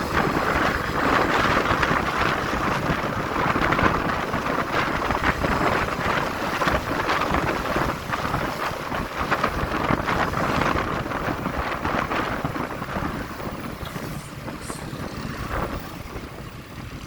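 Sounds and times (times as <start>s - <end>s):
motorcycle road noise: 0.0s - 17.0s
wind rushing over microphone: 0.0s - 17.0s.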